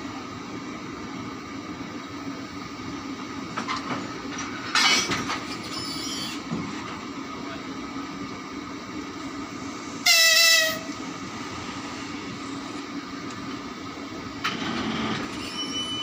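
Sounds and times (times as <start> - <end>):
locomotive machinery hum: 0.0 - 16.0.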